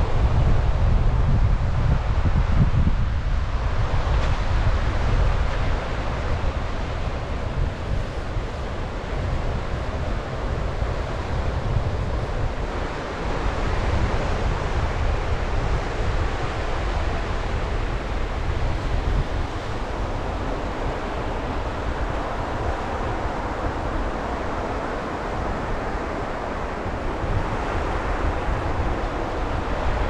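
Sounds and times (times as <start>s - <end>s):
wind rumbling on microphone: 0.0s - 30.0s
sea waves washing onto shore: 3.0s - 30.0s.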